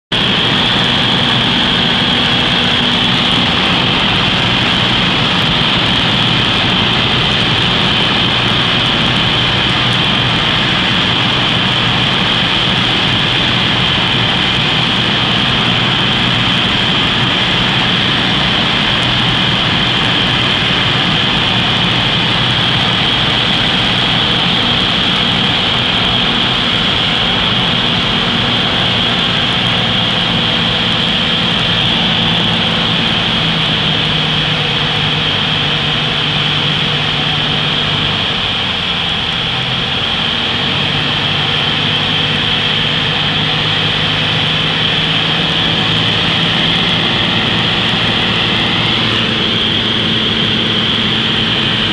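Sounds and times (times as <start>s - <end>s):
propeller aircraft engine drone: 0.1s - 51.9s.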